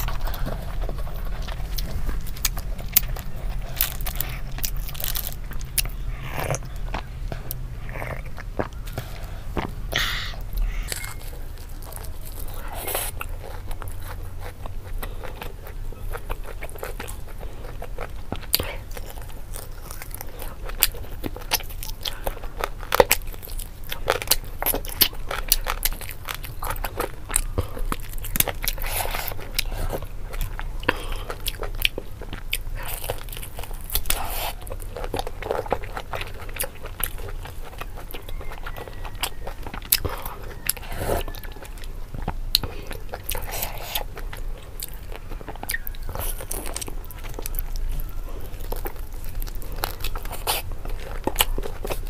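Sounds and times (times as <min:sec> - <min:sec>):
person biting and chewing: 0:00.0 - 0:52.0.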